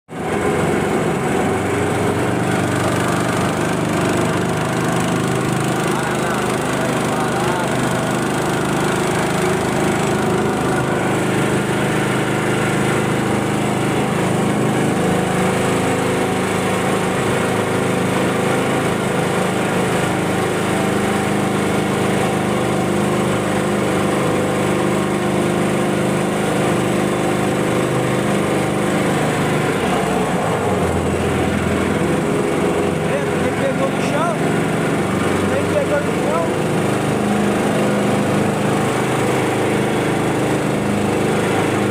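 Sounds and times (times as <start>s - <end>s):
outboard motor running: 0.1s - 41.9s.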